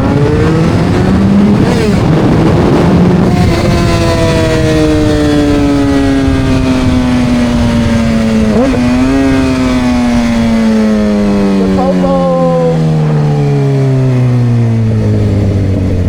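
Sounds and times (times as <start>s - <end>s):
motorcycle engine: 0.0s - 16.0s.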